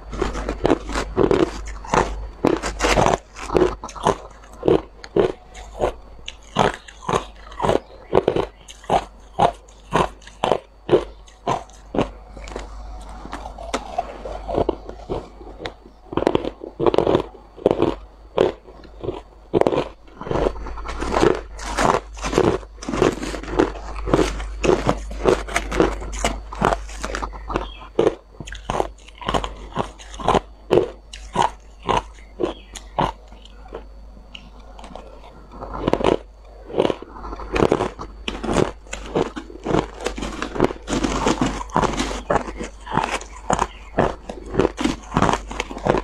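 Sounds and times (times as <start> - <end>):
ice crunching between teeth: 0.0 - 46.0.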